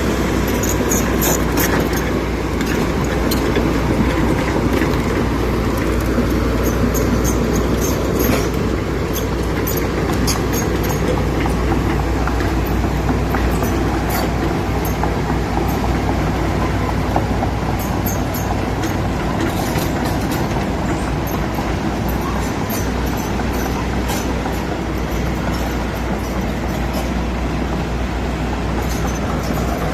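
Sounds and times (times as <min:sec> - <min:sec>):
diesel engine rumble: 0:00.0 - 0:29.9.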